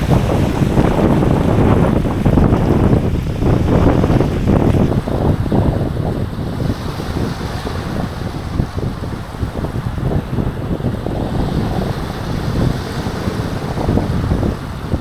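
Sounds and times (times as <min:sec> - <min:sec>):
waves on pebble beach: 0:00.0 - 0:15.0
wind buffeting microphone: 0:00.0 - 0:15.0.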